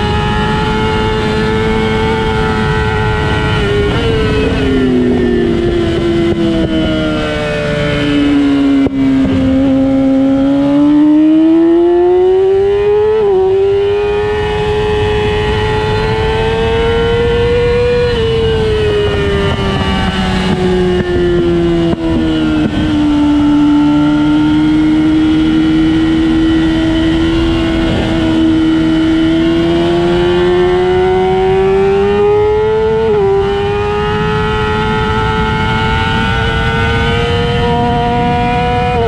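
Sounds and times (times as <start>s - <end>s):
race car engine revving: 0.0s - 39.0s
wind and road rush: 0.0s - 39.0s.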